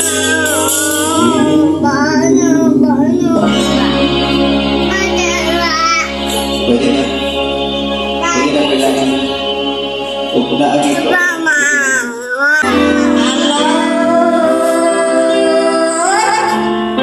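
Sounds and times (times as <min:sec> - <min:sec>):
man singing into microphone: 0:00.0 - 0:05.3, 0:06.3 - 0:07.4, 0:08.2 - 0:17.0
backing track: 0:00.0 - 0:17.0.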